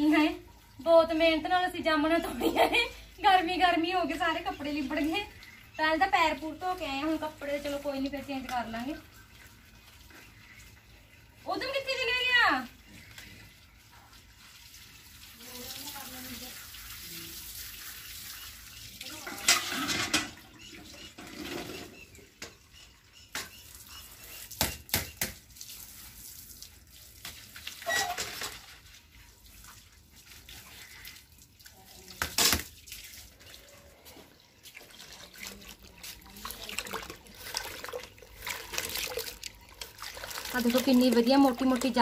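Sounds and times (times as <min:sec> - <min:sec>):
water running from garden hose: 0:00.0 - 0:20.4, 0:23.3 - 0:42.0.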